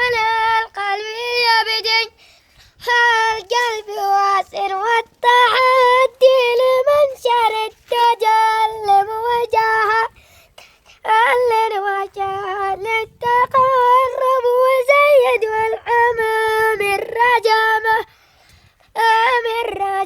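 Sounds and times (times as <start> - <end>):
child singing unaccompanied: 0.0 - 20.0.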